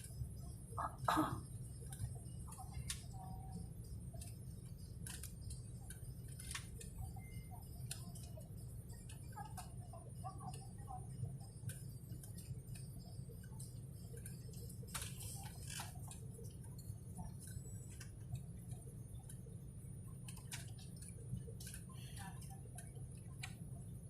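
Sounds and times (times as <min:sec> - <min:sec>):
light clicks and ticks: 0:01.8 - 0:24.0.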